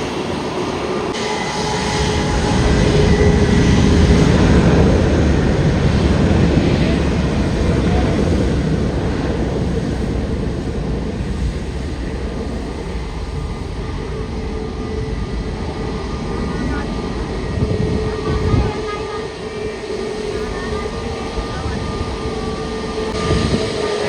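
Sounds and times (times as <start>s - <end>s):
jet airliner roar passing: 0.0s - 24.0s.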